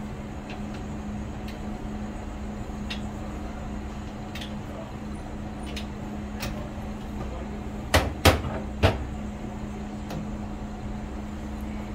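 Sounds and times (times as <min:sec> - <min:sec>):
low hum in cab: 0:00.0 - 0:11.9.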